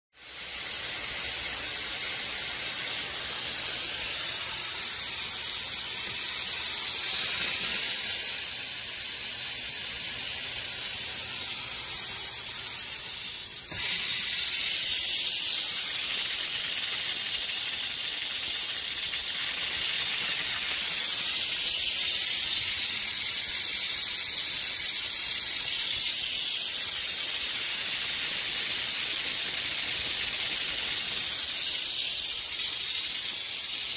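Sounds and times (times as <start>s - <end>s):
steam jetting from spray guns: 0.2s - 33.9s.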